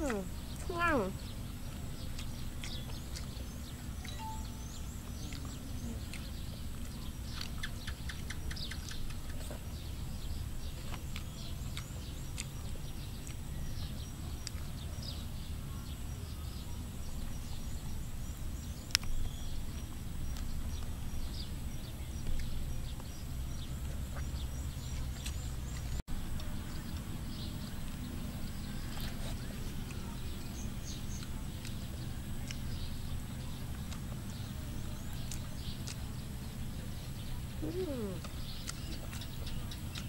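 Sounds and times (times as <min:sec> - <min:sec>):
small birds chirping: 0:00.0 - 0:40.0
steady low rumble: 0:00.0 - 0:40.0.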